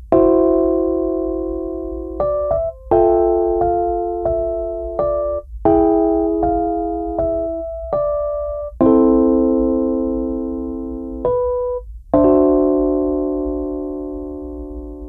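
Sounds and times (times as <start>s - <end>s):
slow electric piano chords: 0.0s - 15.0s.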